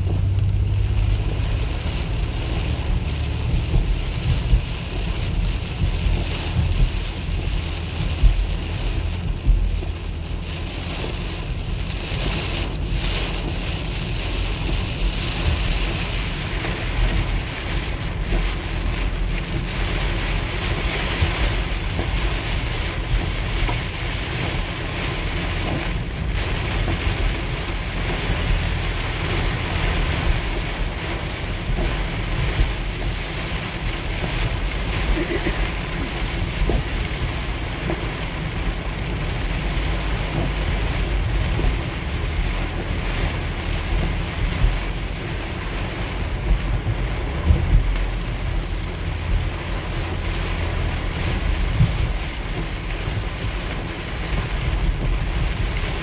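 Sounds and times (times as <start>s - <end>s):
heavy rain on car roof: 0.0s - 56.0s
tyres rumbling on flooded road: 0.0s - 56.0s.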